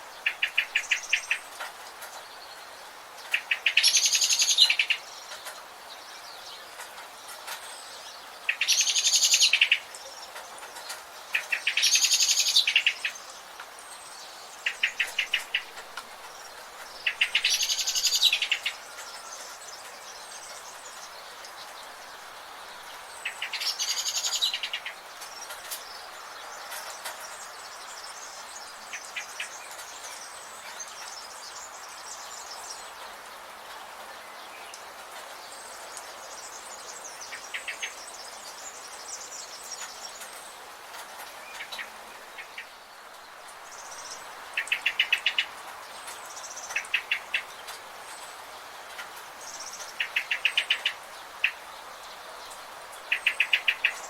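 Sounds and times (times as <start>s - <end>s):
birds singing: 0.0s - 54.0s
steady background hiss: 0.0s - 54.0s.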